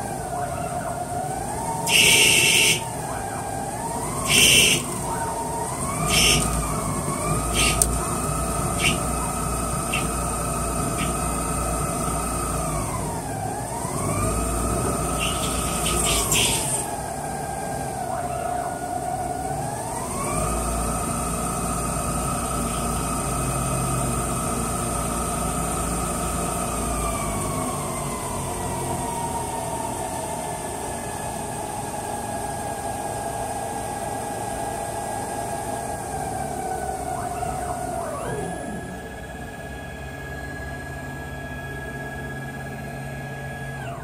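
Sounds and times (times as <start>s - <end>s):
lathe drive whine: 0.0s - 44.0s
machining hum: 0.0s - 44.0s.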